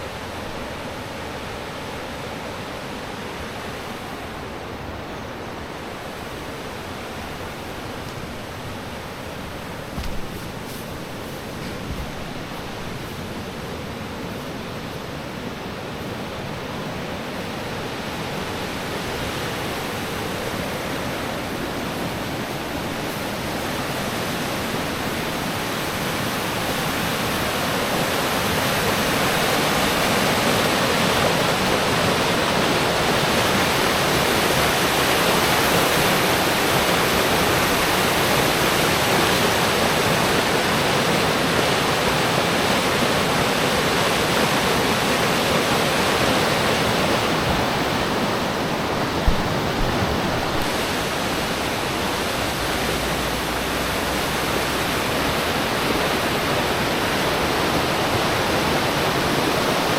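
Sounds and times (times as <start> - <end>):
rushing falling water: 0.0 - 59.9.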